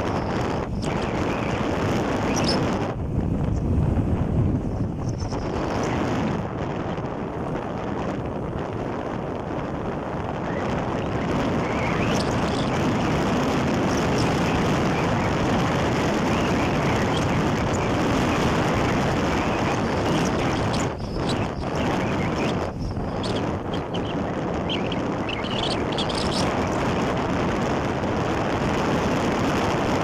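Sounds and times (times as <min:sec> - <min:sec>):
motorcycle running: 0:00.0 - 0:30.0
road noise: 0:00.0 - 0:30.0
wind rush on microphone: 0:00.0 - 0:30.0.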